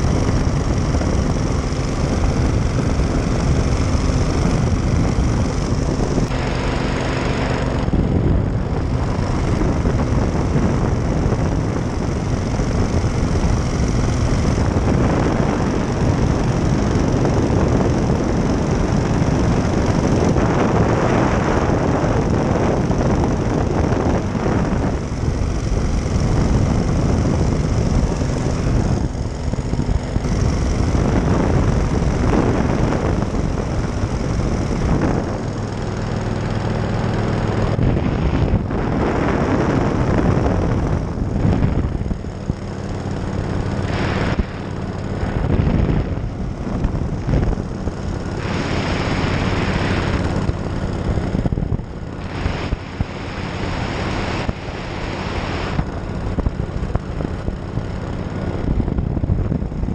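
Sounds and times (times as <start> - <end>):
small aircraft engine and propeller: 0.0 - 59.9
wind rushing over microphone: 0.0 - 59.9.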